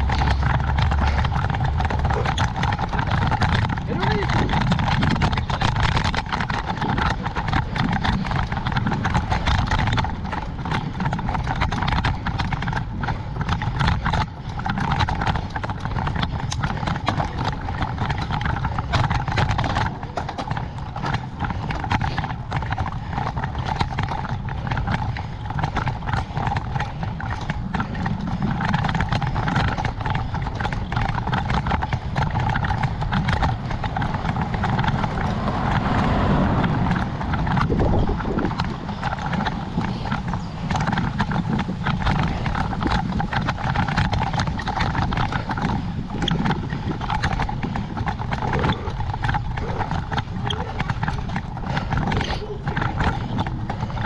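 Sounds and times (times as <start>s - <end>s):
bicycle clicks and rattles: 0.0s - 54.0s
low rumble: 0.0s - 54.0s.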